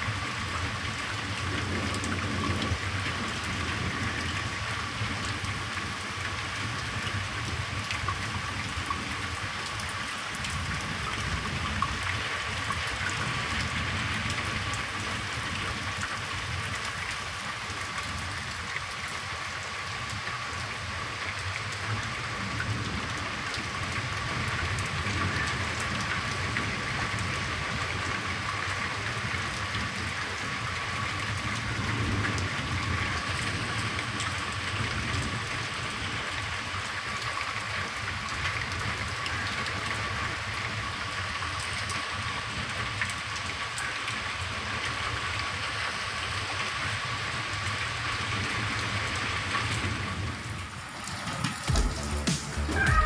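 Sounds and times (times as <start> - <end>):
heavy rain on foliage and pavement: 0.0 - 53.0.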